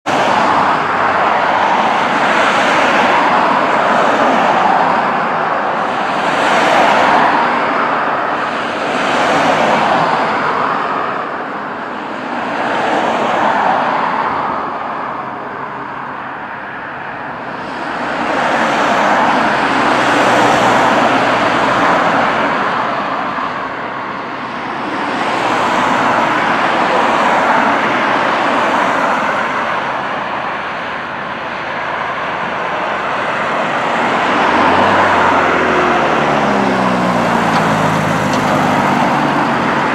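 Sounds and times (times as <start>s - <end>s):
cars passing close by: 0.0s - 39.9s.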